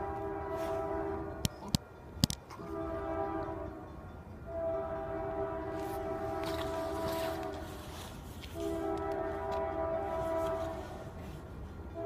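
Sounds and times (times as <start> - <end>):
locomotive air horn blasts: 0.0 - 1.5, 2.5 - 3.9, 4.5 - 12.0.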